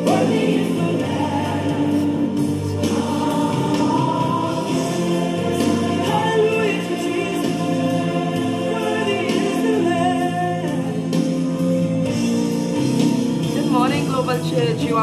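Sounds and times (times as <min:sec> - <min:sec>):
gospel choir singing: 0:00.0 - 0:14.4
backing music: 0:00.0 - 0:15.0.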